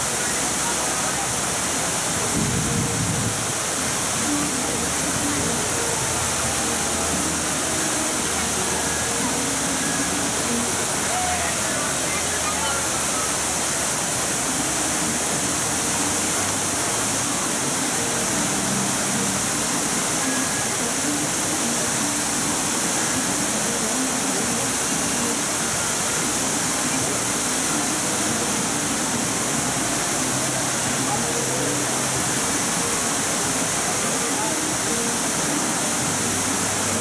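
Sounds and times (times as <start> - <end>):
water falling from fountain: 0.0 - 37.0.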